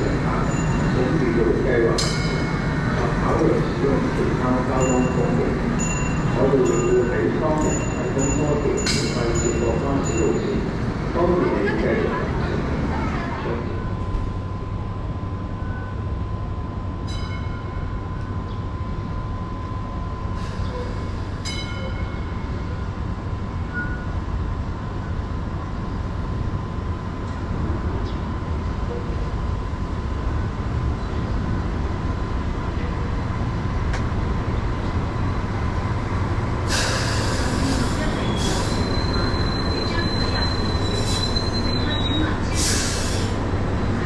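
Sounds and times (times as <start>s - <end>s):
high whine of train: 0.0s - 44.0s
train rumbling along track: 0.0s - 44.0s.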